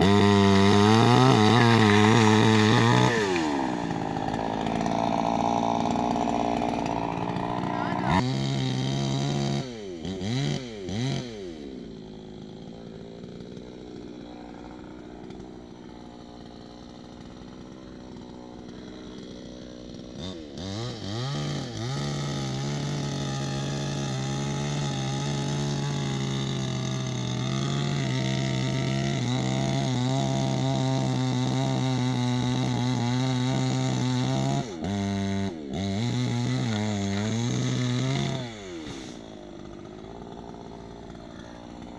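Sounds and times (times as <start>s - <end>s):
chainsaw idling and revving: 0.0s - 41.9s.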